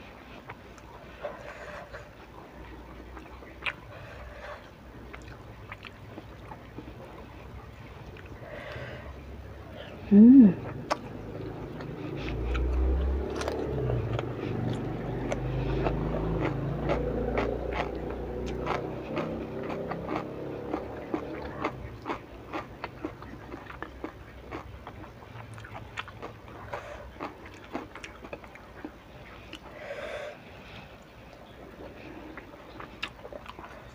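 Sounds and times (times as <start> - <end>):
person chewing food: 0.0 - 9.3, 10.0 - 33.9.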